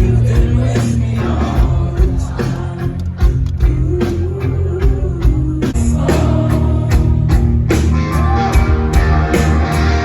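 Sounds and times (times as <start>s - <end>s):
person singing: 0.0s - 10.0s
rock band playing: 0.0s - 10.0s.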